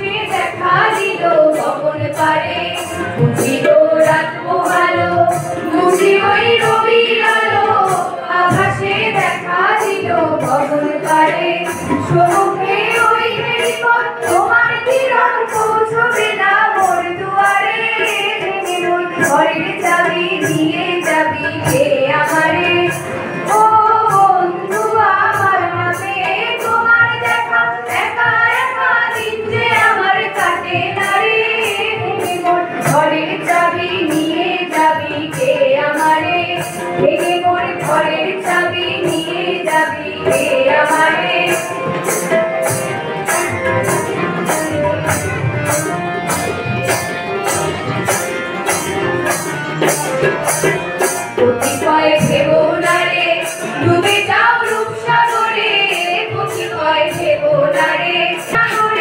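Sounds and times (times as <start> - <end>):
women singing through microphone: 0.0 - 42.8, 51.4 - 59.0
high percussion beat: 0.0 - 59.0.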